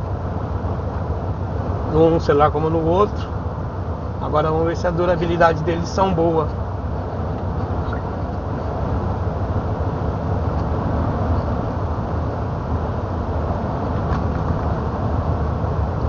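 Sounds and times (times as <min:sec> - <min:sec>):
road noise: 0:00.0 - 0:16.0
truck engine rumble: 0:00.0 - 0:16.0.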